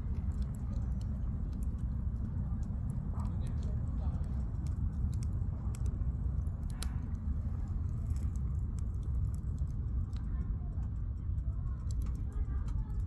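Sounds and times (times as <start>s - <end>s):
campfire crackling: 0.0s - 10.5s, 11.7s - 13.0s
steady low fire rumble: 0.0s - 13.0s.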